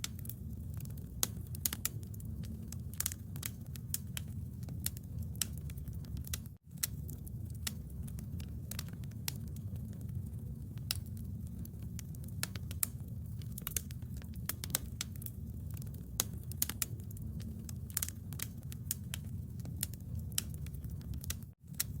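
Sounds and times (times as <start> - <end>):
bonfire crackling and popping: 0.0 - 22.0
low rumble of flames: 0.0 - 22.0.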